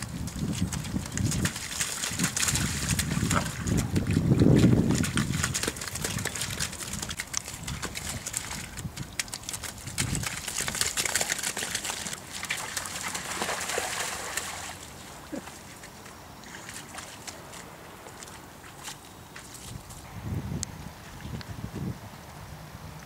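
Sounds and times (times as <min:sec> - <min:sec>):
squelching and splashing in mud: 0:00.0 - 0:20.1.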